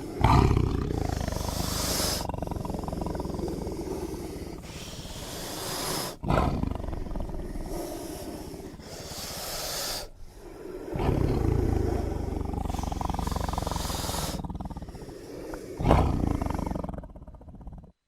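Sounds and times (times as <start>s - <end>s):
deep rumbling creature growls: 0.0s - 18.0s.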